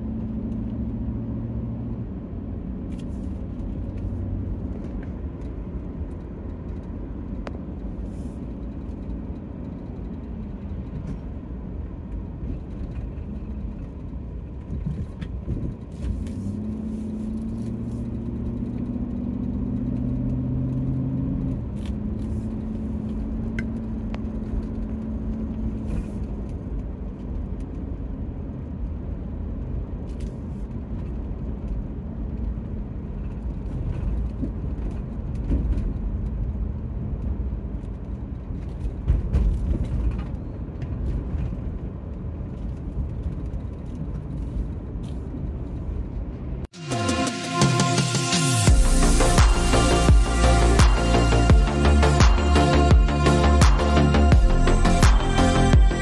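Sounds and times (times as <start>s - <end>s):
car road noise and engine rumble: 0.0s - 56.0s.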